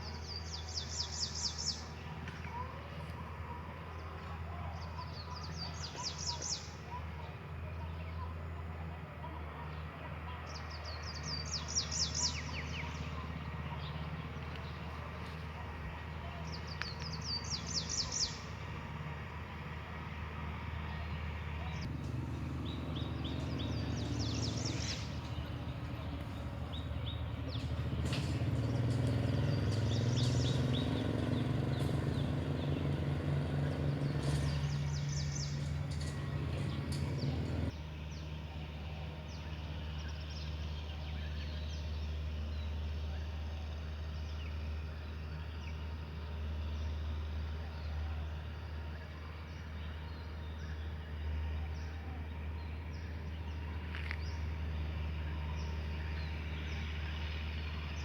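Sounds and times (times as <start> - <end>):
birds chirping: 0.0 - 8.4, 9.7 - 19.0, 19.6 - 38.5, 43.9 - 58.0.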